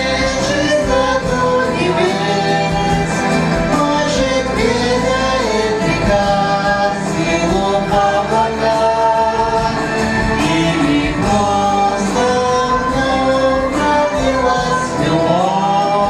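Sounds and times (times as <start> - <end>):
voices singing long held notes: 0.0 - 16.0.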